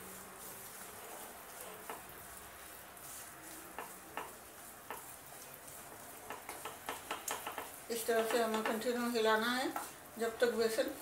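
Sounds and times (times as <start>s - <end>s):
faint sizzle: 0.0s - 11.0s
wooden spatula scraping a pot: 0.7s - 10.0s.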